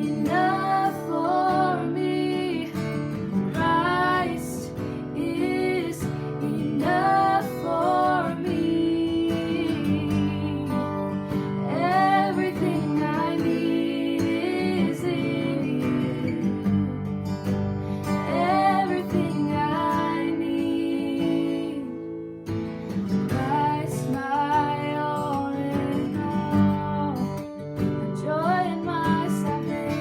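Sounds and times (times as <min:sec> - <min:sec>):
woman singing: 0:00.0 - 0:17.4, 0:18.0 - 0:22.4, 0:23.1 - 0:30.0
acoustic guitar: 0:00.0 - 0:30.0.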